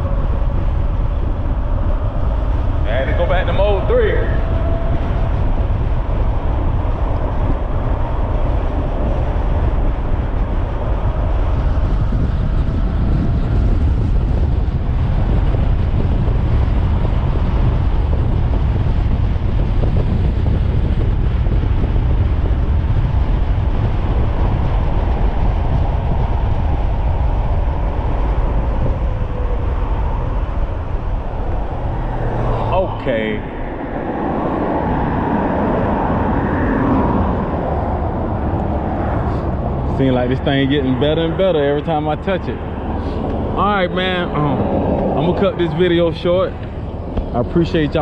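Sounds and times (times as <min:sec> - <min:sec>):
wind rush on microphone: 0:00.0 - 0:48.0.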